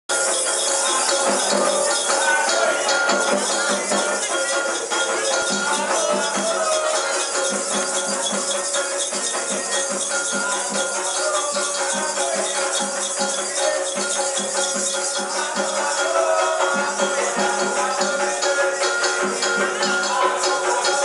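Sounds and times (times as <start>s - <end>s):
shaken rattles: 0.2s - 18.0s.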